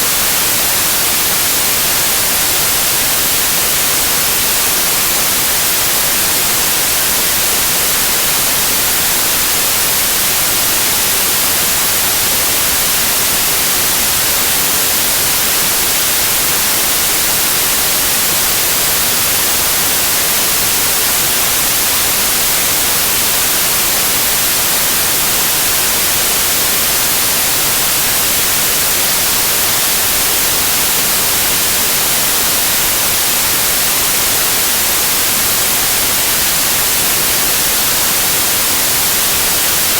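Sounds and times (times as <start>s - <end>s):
tv static white noise: 0.0s - 39.9s.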